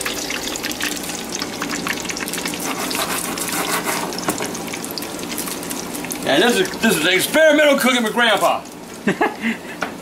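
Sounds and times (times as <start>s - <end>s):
food sizzling in grease: 0.0s - 9.1s.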